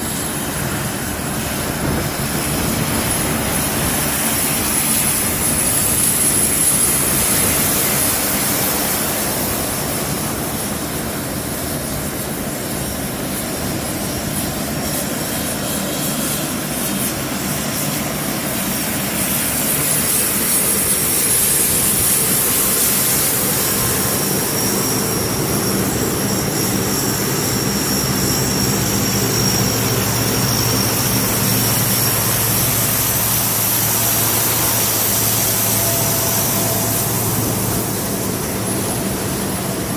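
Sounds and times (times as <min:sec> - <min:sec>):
high turbine whine: 0:00.0 - 0:39.9
low propeller hum: 0:00.0 - 0:39.9.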